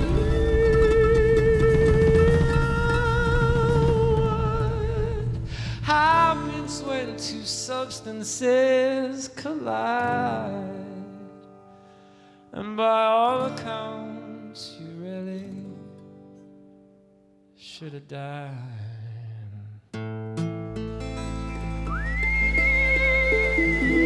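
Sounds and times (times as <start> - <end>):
man singing: 0.0 - 11.6, 12.5 - 15.9, 17.6 - 19.9, 21.9 - 24.0.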